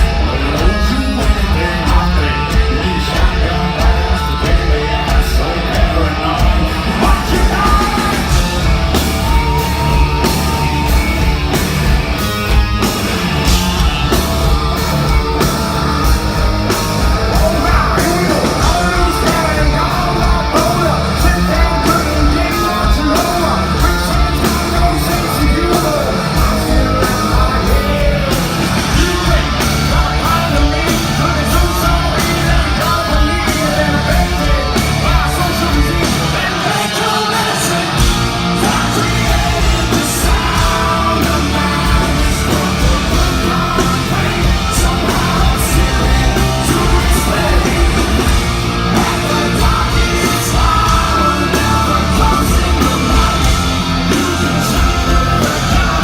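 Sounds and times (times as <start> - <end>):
person singing loudly: 0.0 - 11.9, 13.1 - 56.0
bass guitar: 0.0 - 56.0
distorted electric guitars: 0.0 - 56.0
drum beat: 0.0 - 56.0.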